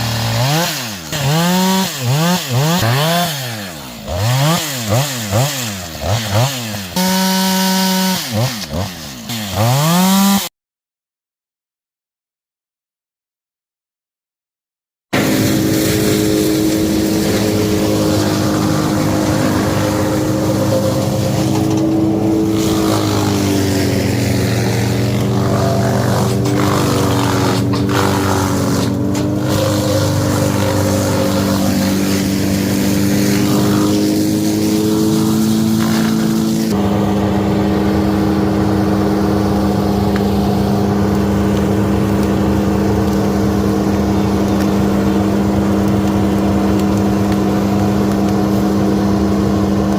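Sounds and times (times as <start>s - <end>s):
engine running at high speed: 0.0s - 10.4s, 15.2s - 49.9s.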